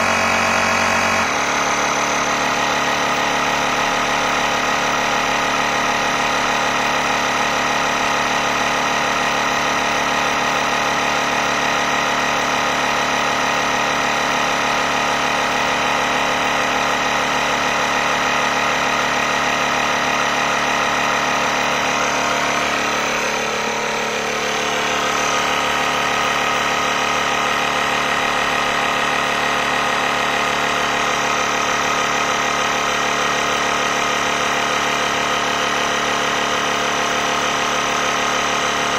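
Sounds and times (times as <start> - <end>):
air compressor pumping tyre: 0.0 - 38.9.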